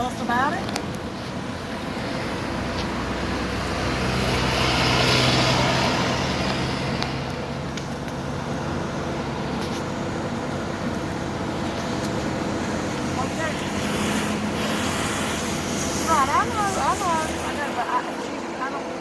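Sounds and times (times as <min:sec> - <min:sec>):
car engine hum: 0:00.0 - 0:19.0.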